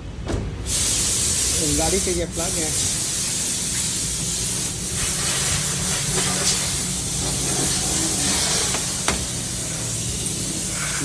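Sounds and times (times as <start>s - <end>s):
steady hiss: 0.6s - 11.0s.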